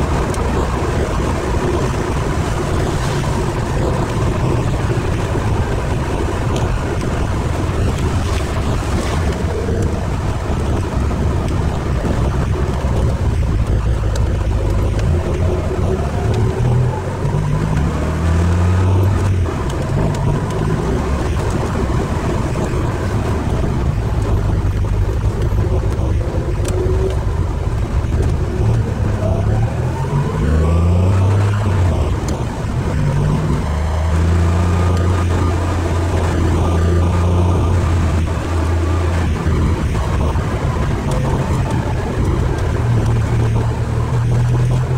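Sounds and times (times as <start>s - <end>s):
road noise: 0.0s - 44.9s.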